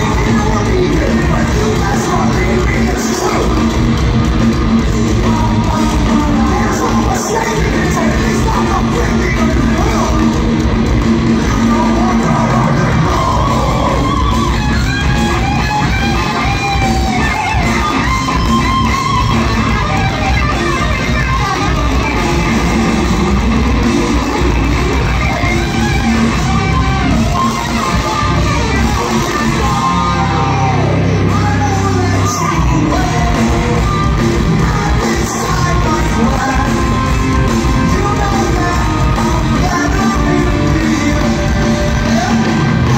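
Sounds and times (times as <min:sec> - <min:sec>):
person singing: 0:00.0 - 0:03.8, 0:04.4 - 0:10.7, 0:11.3 - 0:14.6, 0:16.3 - 0:42.9
drums: 0:00.0 - 0:42.9
electric guitars: 0:00.0 - 0:42.9.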